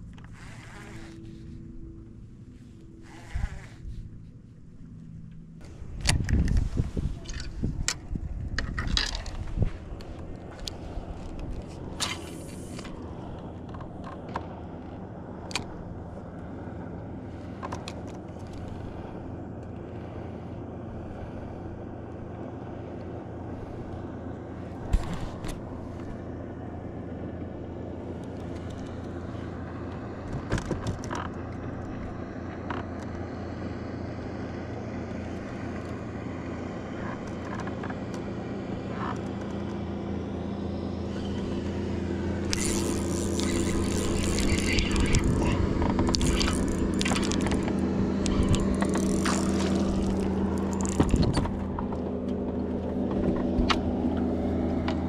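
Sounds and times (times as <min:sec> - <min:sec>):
boat motor humming: 0:00.0 - 0:55.0.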